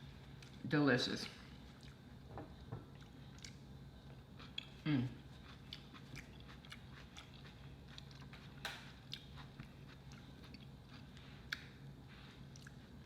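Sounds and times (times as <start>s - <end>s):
faint steady hum: 0.0s - 13.0s
close-miked chewing: 1.2s - 13.0s.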